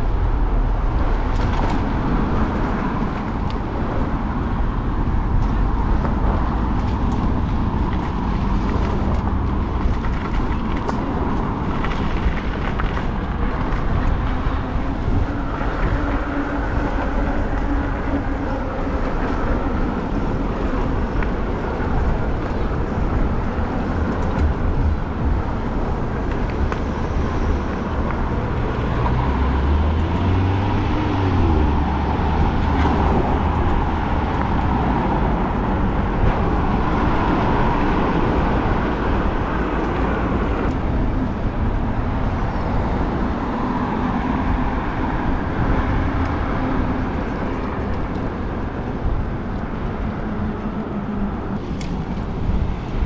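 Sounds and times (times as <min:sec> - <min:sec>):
road and traffic noise: 0:00.0 - 0:53.0
wind buffeting microphone: 0:00.0 - 0:53.0.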